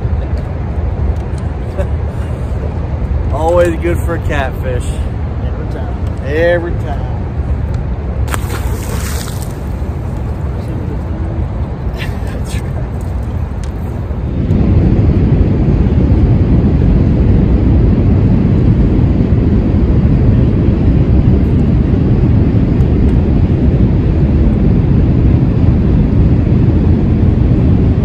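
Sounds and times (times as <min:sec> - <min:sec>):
loud low rumble: 0:02.0 - 0:28.0.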